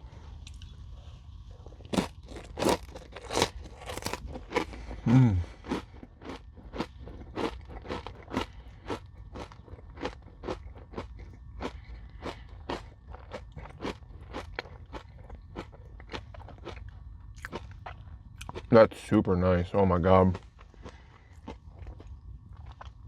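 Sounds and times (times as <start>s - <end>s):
crunchy chewing close up: 1.4s - 18.7s, 19.9s - 23.0s.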